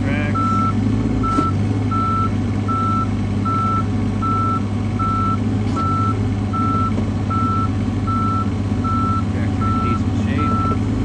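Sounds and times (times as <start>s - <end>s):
diesel engine running: 0.0s - 11.0s
excavator alarm beeping: 0.3s - 10.9s.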